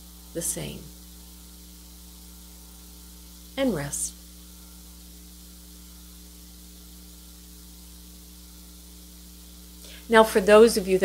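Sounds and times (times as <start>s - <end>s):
electrical mains hum: 0.0s - 11.0s
faint hiss: 0.0s - 11.0s.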